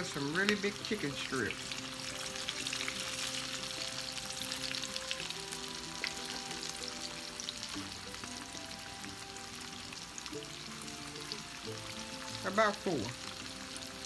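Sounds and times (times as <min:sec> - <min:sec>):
chicken frying in grease: 0:00.0 - 0:14.0
soft background music: 0:00.0 - 0:14.0.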